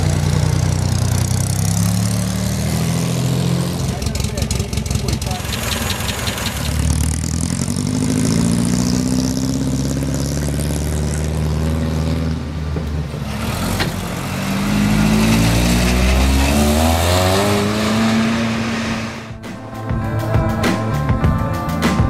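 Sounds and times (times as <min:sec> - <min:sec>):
car engine driving off: 0:00.0 - 0:21.0
car engine revving: 0:00.0 - 0:21.0.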